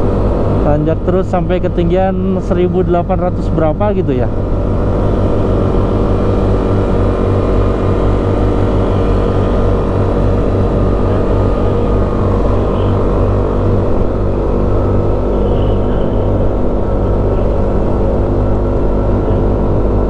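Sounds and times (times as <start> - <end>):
rushing noise: 0.0 - 20.0
motorcycle engine under load: 3.7 - 20.0.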